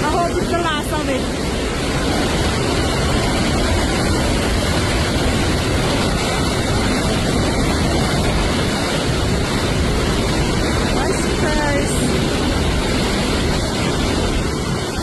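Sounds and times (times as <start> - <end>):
heavy rain: 0.0 - 15.0
hurricane-force wind: 0.0 - 15.0
wind buffeting microphone: 0.0 - 15.0.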